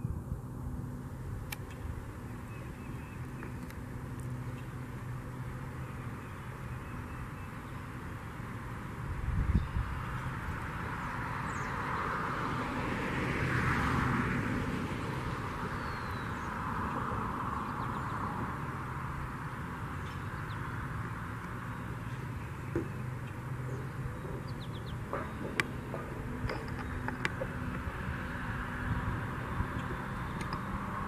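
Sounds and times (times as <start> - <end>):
distant engine passing: 0.0 - 31.0.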